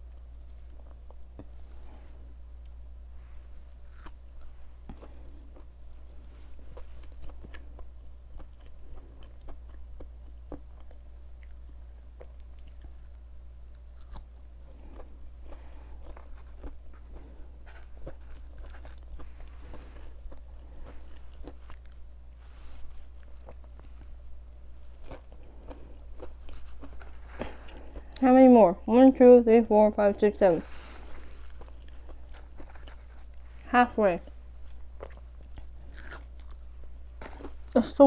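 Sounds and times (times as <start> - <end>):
crunchy chewing: 0.0 - 28.2, 30.4 - 37.8.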